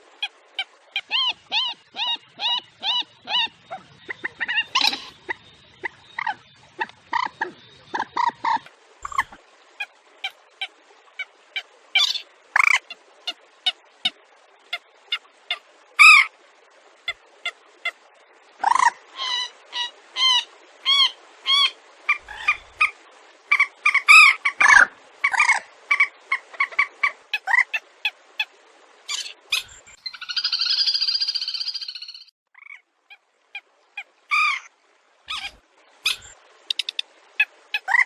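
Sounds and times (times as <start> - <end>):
wetland bird calls: 0.2 - 11.3, 12.0 - 16.3, 18.6 - 28.2, 29.1 - 32.8, 34.0 - 34.7, 35.3 - 38.0.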